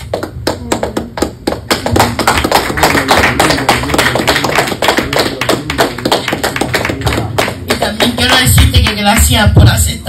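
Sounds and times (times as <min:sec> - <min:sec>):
sharp taps and claps: 0:00.0 - 0:09.4.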